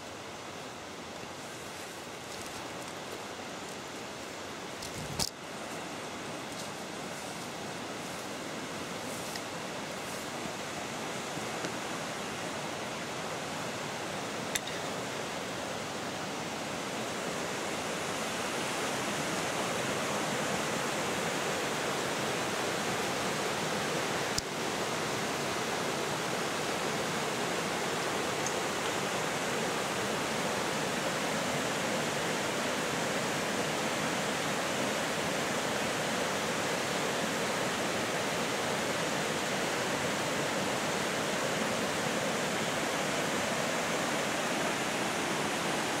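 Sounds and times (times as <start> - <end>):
water cascades rushing: 0.0 - 46.0.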